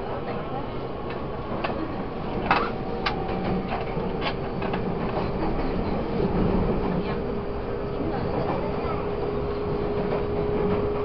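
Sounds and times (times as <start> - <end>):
train rolling rumble: 0.0 - 11.0.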